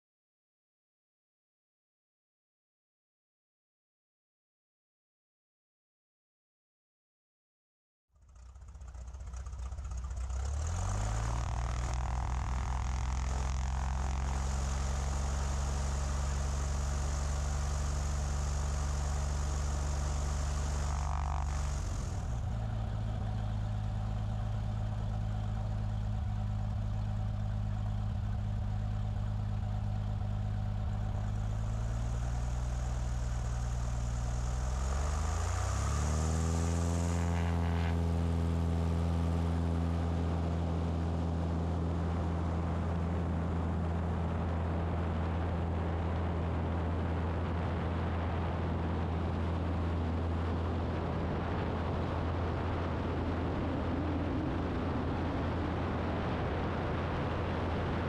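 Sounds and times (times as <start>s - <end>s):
propeller plane engine running: 8.2s - 58.0s.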